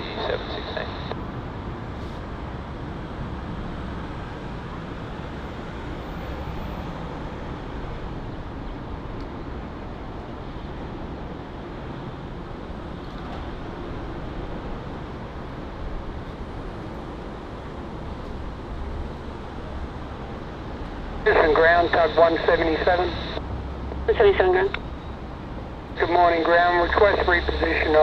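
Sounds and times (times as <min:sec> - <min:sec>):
airport background rumble: 0:00.0 - 0:28.0.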